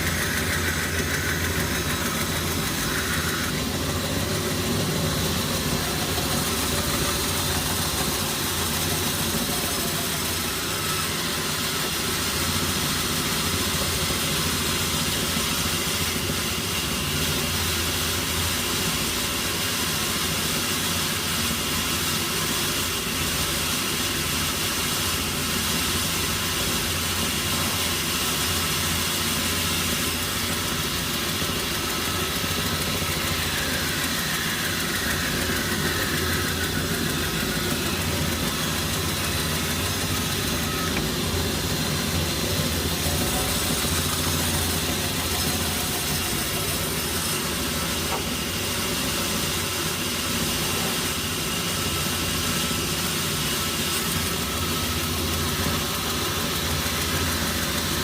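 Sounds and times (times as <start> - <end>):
sawmill machinery hum: 0.0 - 58.0.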